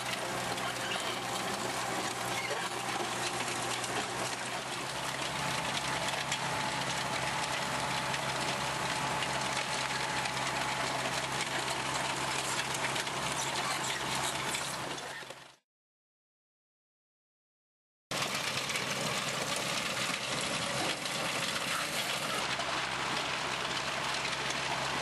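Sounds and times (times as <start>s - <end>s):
tractor engine humming: 0.0s - 15.5s, 18.2s - 25.0s
implement working stony ground: 0.0s - 15.6s, 18.1s - 25.0s.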